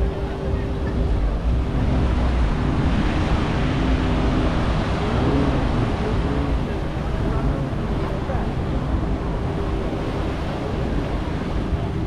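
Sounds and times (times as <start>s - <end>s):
faint voices: 0.0s - 12.0s
surf washing: 0.0s - 12.0s
wind buffeting microphone: 0.0s - 12.0s.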